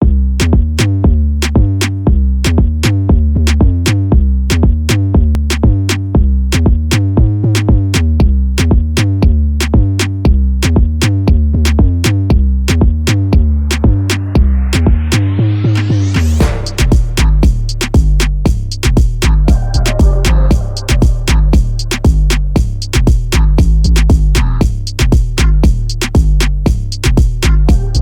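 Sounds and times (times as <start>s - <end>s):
drum machine beat: 0.0s - 28.0s
pulsing synth bass: 0.0s - 28.0s.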